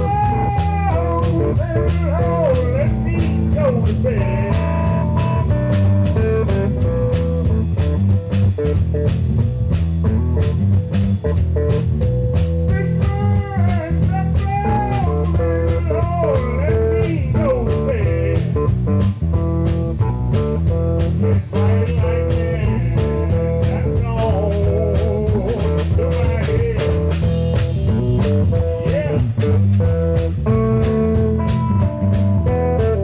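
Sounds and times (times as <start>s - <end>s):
bass guitar: 0.0s - 33.0s
drum kit beat: 0.0s - 33.0s
electric guitar lead lines: 0.0s - 33.0s.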